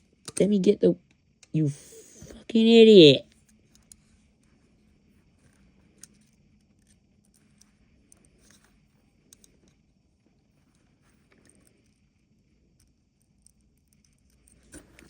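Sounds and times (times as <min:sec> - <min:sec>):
faint clicks of small parts: 0:00.0 - 0:01.5, 0:03.2 - 0:15.0.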